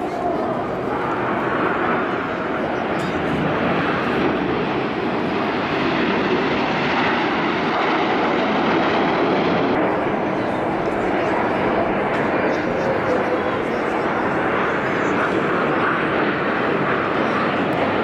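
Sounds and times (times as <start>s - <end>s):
jets roaring overhead: 0.0s - 18.0s.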